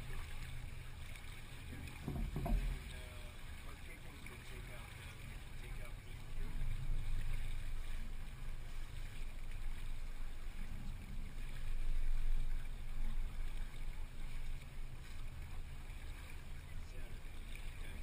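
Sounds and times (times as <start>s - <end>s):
wind and water around hull: 0.0s - 18.0s.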